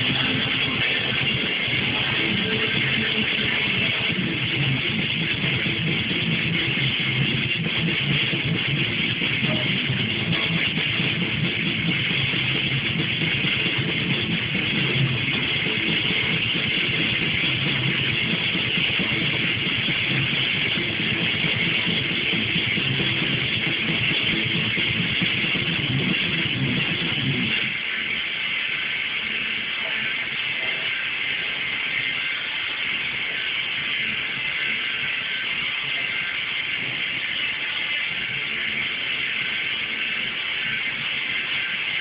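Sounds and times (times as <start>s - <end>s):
metal music distorted guitars: 0.0s - 42.0s.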